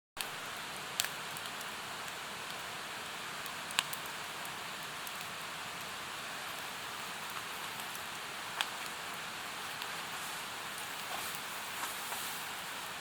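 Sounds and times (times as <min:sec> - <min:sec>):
campfire wood crackling and popping: 0:00.2 - 0:13.0.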